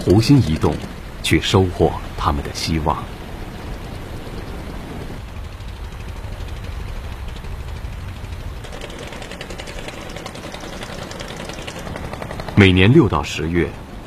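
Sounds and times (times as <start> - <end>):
small boat engine puttering: 0.0 - 13.5.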